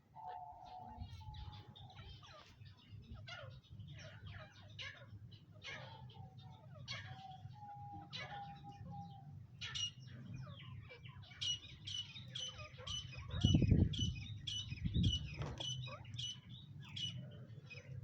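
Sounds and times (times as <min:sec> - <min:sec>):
partridges chirping: 0:00.0 - 0:18.0.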